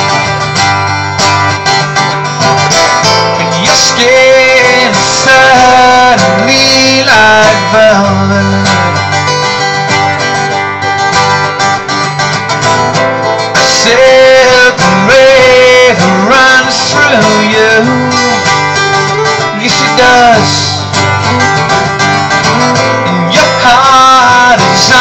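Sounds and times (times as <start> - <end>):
acoustic guitars playing: 0.0 - 25.0
bending guitar melody line: 0.0 - 25.0.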